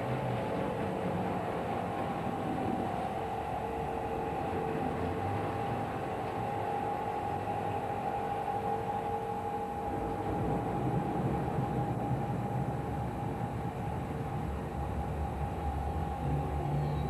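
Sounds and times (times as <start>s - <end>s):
faint held hum: 0.0s - 17.0s
low rumbling drone: 0.0s - 17.0s.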